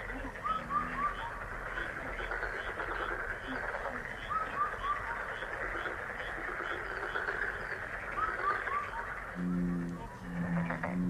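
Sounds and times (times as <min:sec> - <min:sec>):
frog chorus croaking: 0:00.0 - 0:11.0.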